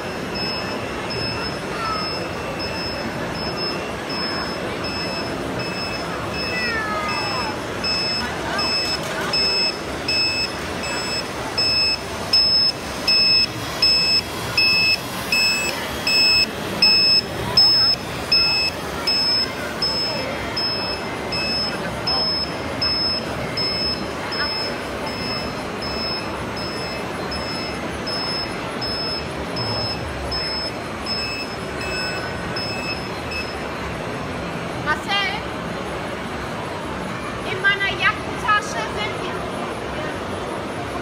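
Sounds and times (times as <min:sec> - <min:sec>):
reversing alarm beeping: 0:00.0 - 0:34.2
exhibition hall background noise: 0:00.0 - 0:41.0.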